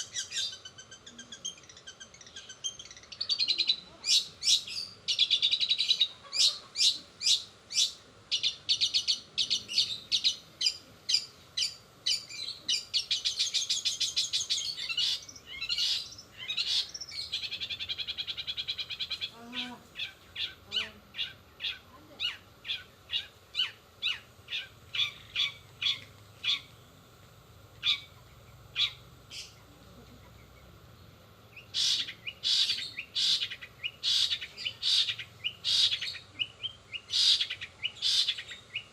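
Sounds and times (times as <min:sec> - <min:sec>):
bird singing rapid chirps and trills: 0:00.0 - 0:27.0, 0:27.6 - 0:38.9.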